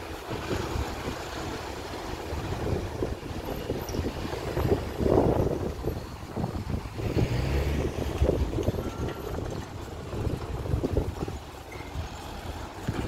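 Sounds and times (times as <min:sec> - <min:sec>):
low engine rumble: 0:00.0 - 0:13.0
wind buffeting microphone: 0:00.0 - 0:13.0.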